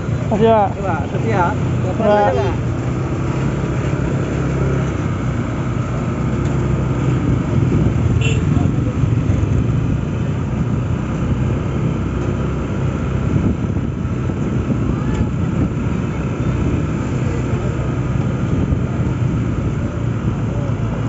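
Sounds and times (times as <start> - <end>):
road and wind noise: 0.0 - 21.0
scooter engine rumbling: 0.0 - 21.0.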